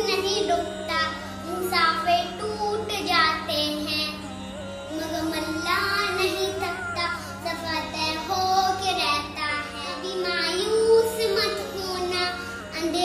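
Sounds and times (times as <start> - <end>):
boy singing devotional song: 0.0 - 13.0
steady low hum: 0.0 - 13.0.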